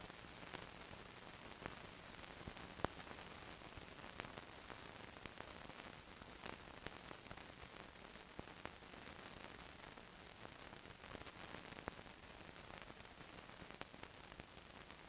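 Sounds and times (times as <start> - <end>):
faint film surface hiss: 0.0 - 15.0.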